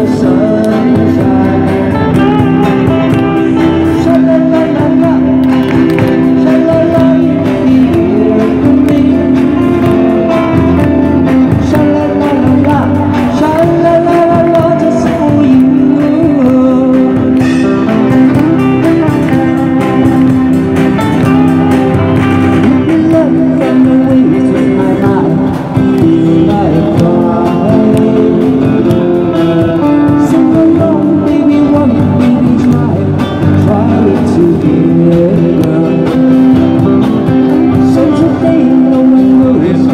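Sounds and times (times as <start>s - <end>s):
live pop band playing: 0.0s - 39.9s
person singing through a pa: 0.0s - 39.9s.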